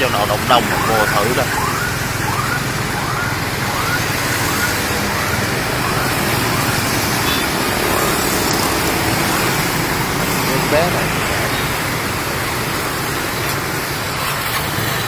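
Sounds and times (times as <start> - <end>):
motorbike traffic: 0.0 - 15.0.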